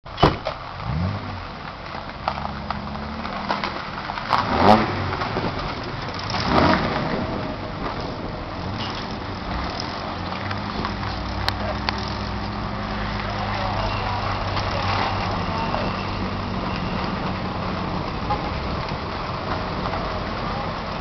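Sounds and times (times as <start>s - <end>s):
car engines running: 0.1s - 21.0s
car engine revving: 0.5s - 21.0s.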